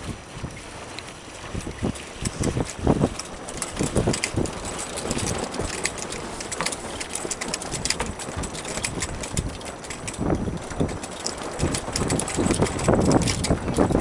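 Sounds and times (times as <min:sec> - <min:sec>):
wind buffeting microphone: 0:00.0 - 0:14.0
boat clicks and knocks: 0:01.1 - 0:14.0.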